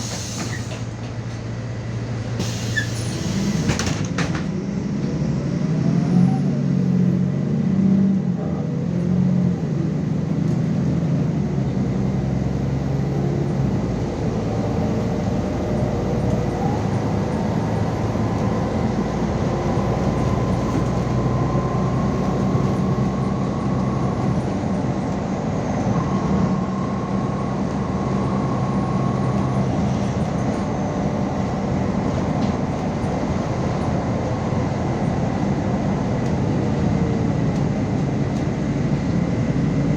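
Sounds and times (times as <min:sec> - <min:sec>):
bus engine hum: 0:00.0 - 0:39.9
road and running noise: 0:00.0 - 0:39.9.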